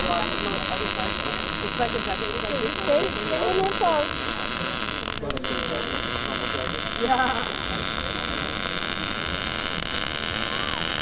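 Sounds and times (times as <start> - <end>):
welding arc buzzing and crackling: 0.0 - 11.0.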